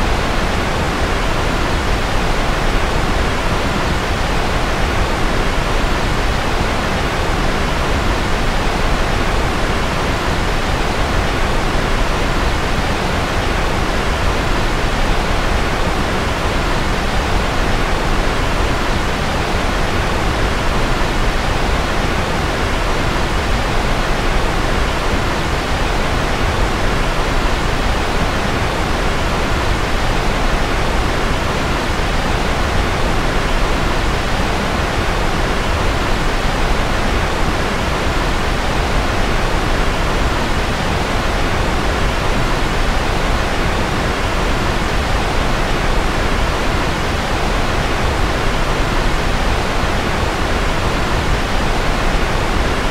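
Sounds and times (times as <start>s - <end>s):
white noise hiss: 0.0s - 52.9s.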